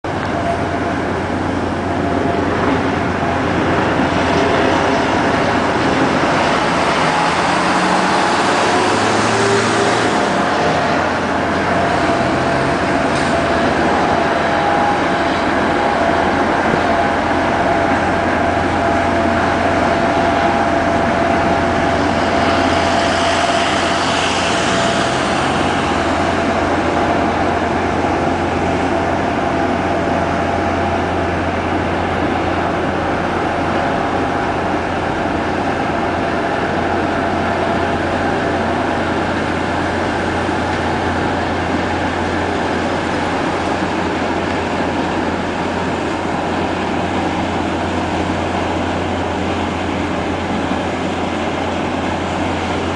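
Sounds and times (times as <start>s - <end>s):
ship engines rumbling: 0.0s - 52.9s.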